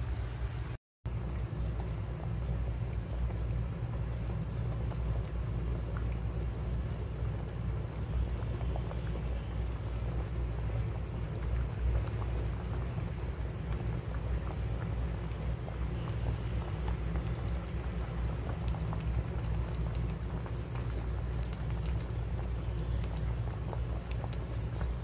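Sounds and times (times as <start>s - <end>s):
low boiling rumble: 0.0s - 25.0s
bubbles popping in boiling pot: 1.1s - 25.0s.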